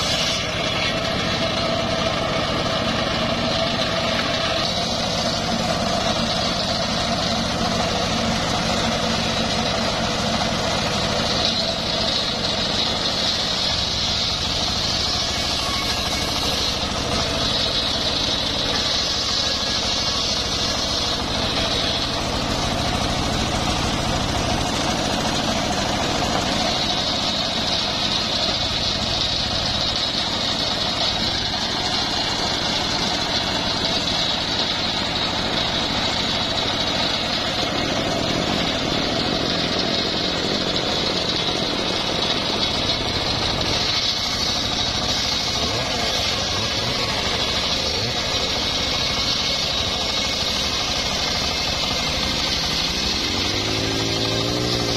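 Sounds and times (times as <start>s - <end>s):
circular sawmill cutting logs: 0.0s - 54.9s.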